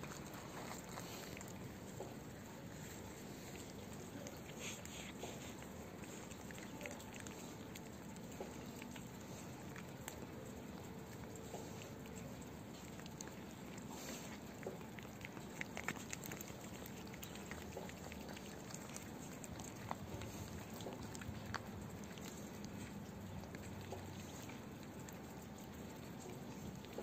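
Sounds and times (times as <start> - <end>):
cats chewing and licking food: 0.0 - 27.0.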